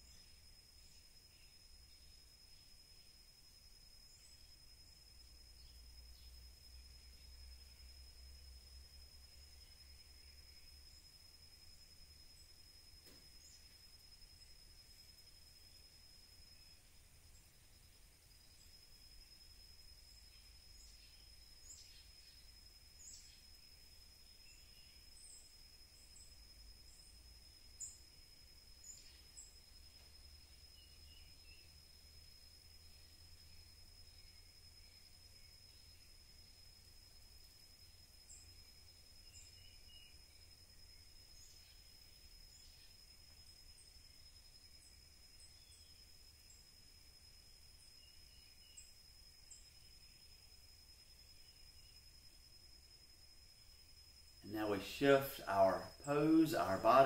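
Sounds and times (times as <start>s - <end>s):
faint bird chirps: 0.0s - 57.0s
high-pitched insect drone: 0.0s - 57.0s
steady high-pitched whine: 0.0s - 57.0s.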